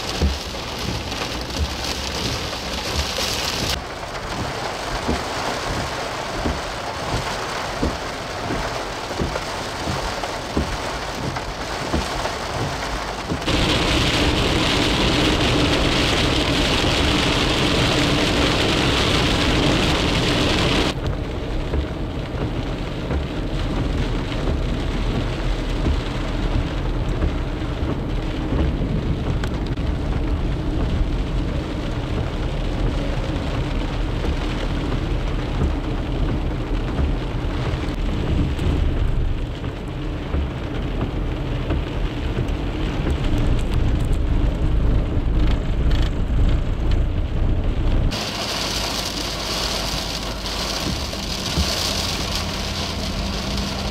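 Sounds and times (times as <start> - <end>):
low rumble: 0.0 - 53.9
rain on a vehicle: 0.0 - 53.9.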